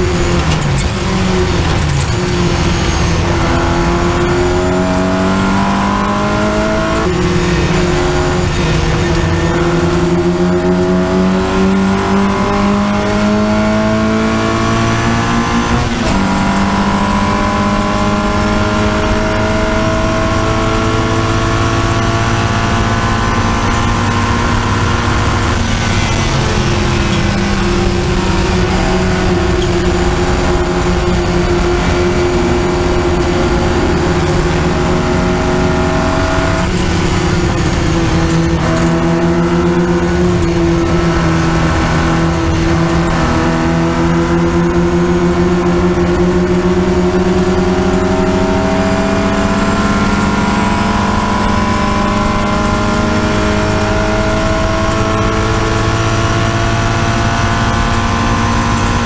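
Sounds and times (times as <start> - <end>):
race car engine: 0.0 - 59.0.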